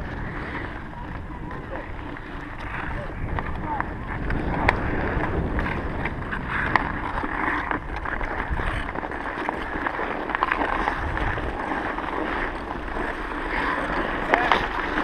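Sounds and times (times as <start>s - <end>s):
ice skates scraping on ice: 0.0s - 15.0s.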